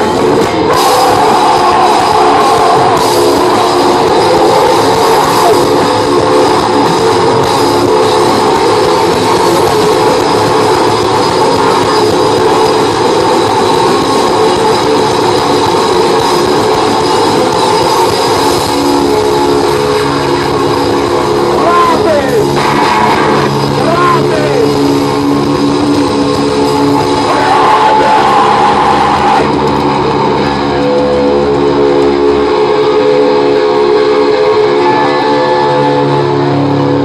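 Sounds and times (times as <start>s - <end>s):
bass guitar: 0.0s - 37.0s
distorted electric guitars: 0.0s - 37.0s
drums: 0.0s - 37.0s.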